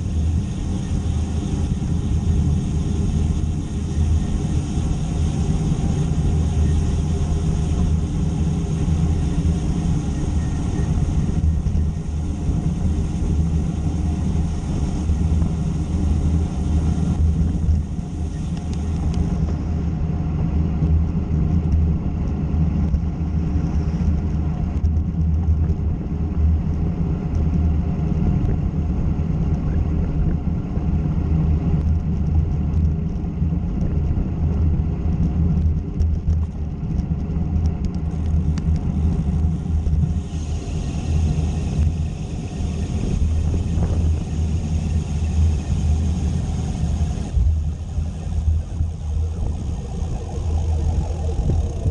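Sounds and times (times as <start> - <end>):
low road rumble: 0.0 - 51.9.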